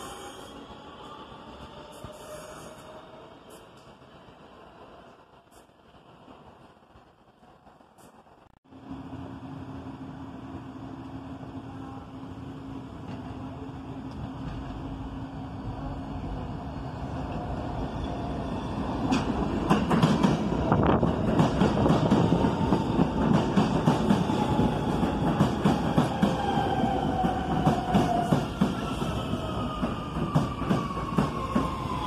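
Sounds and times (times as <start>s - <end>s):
subway train running on rails: 0.0s - 32.0s.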